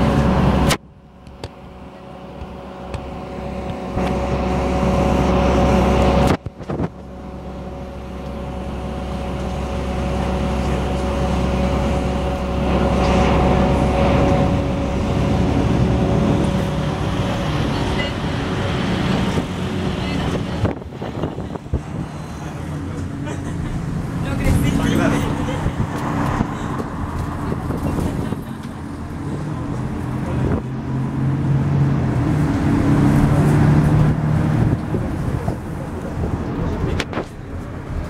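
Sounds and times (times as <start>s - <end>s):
bus diesel engine rumble: 0.0s - 38.0s.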